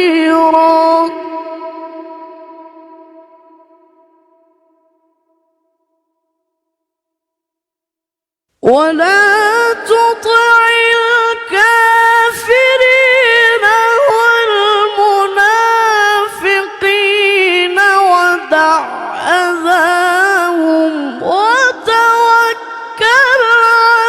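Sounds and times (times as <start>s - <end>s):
person chanting recitation: 0.0s - 4.5s, 8.6s - 24.0s.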